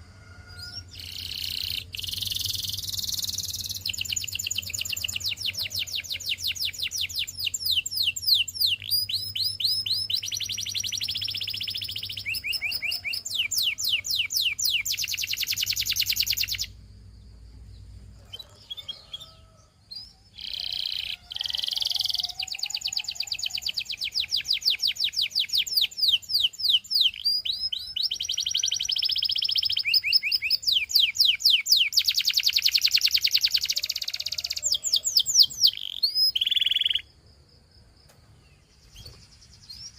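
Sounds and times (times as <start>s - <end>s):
canary singing trills: 0.0s - 16.8s, 17.5s - 37.2s.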